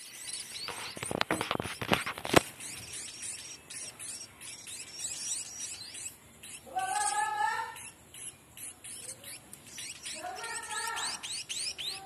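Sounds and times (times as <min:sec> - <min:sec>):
chicks begging chirps: 0:00.0 - 0:12.0.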